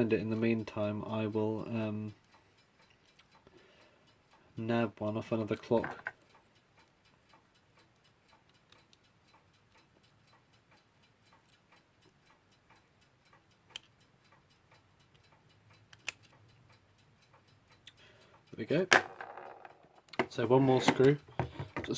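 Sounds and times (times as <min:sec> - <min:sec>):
mechanical clock ticking: 0:00.0 - 0:21.9.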